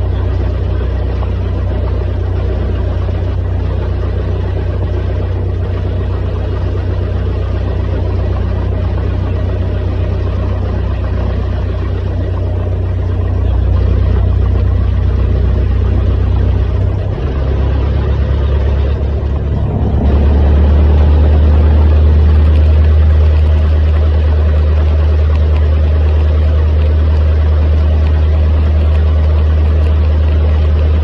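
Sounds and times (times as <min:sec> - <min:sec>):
plane engine and propeller droning: 0:00.0 - 0:31.0.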